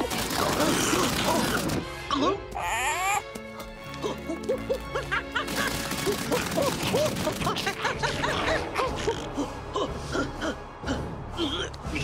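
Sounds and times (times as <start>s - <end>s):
busy cartoon music: 0.0s - 12.0s.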